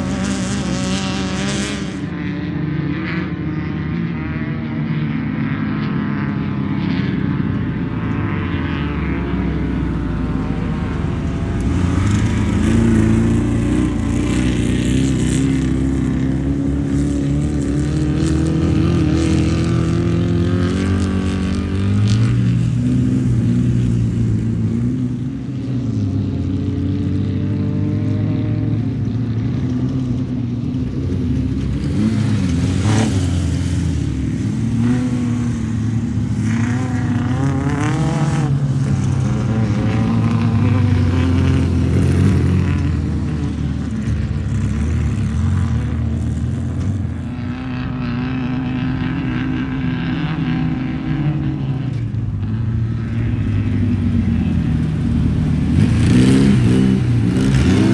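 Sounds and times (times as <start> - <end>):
race car engines revving: 0.0 - 57.9.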